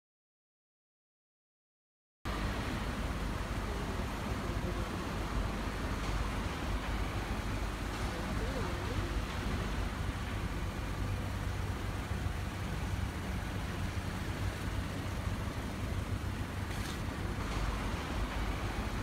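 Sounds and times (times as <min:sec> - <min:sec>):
low rumble and hiss of garage: 0:02.3 - 0:19.0.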